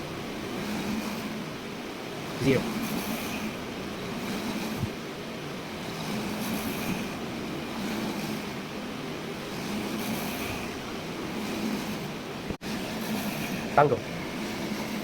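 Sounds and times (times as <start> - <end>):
moving vehicle rumble and hiss: 0.0 - 15.0.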